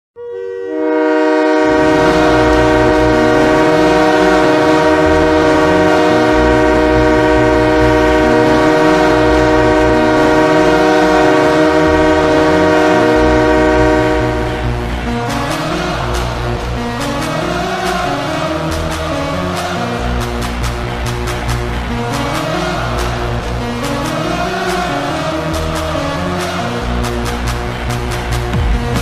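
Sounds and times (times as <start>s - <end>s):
multi-tone air horn blast: 0.6s - 28.3s.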